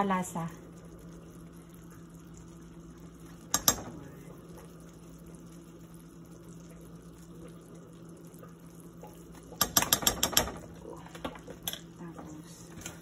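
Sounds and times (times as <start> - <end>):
sauce simmering in pot: 0.0 - 13.0
steady low hum: 0.0 - 13.0.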